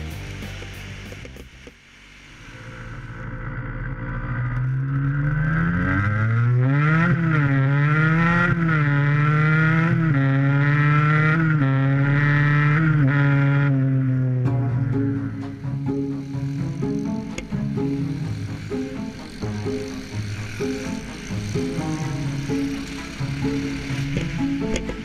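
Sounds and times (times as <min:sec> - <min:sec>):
race car engine accelerating: 0:02.6 - 0:25.0.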